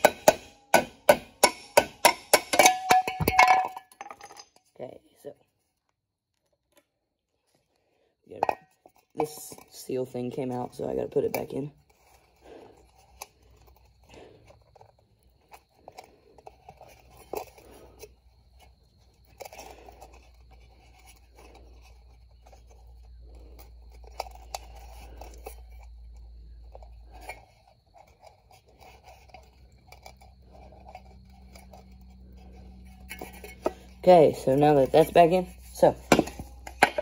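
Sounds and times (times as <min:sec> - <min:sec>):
hands clicking and scraping metal parts: 0:00.0 - 0:04.8, 0:08.4 - 0:37.0.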